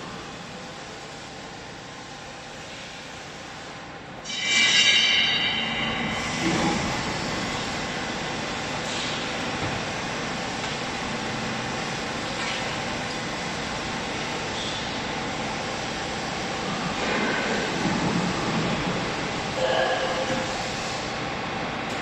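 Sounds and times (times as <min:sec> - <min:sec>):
low machine hum: 0:00.0 - 0:22.0
loud high-pitched whine: 0:03.9 - 0:22.0.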